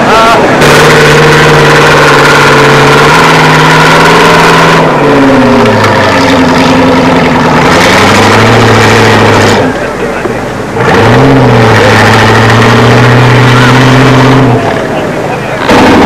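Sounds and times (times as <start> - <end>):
buggy engine running under load: 0.0 - 16.0.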